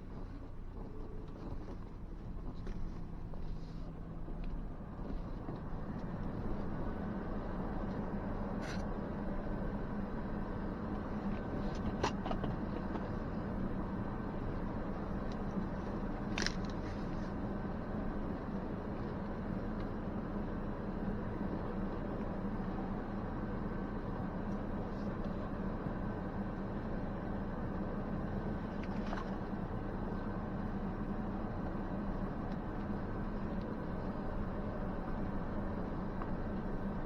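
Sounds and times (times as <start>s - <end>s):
truck engine running at low speed: 0.0s - 37.0s.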